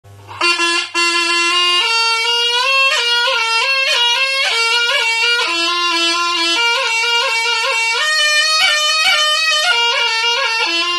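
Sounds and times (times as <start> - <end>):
double-reed shawm melody: 0.3 - 10.9.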